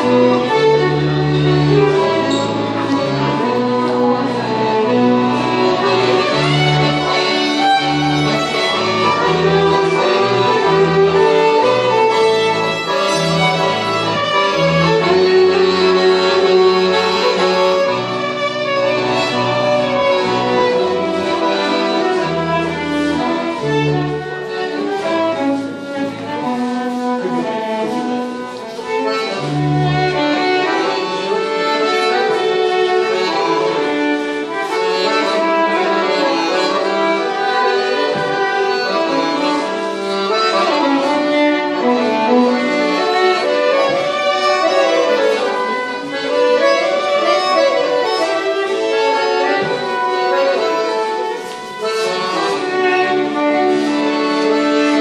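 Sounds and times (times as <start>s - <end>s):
accordion: 0.0s - 55.0s
fiddles playing a tune: 0.0s - 55.0s.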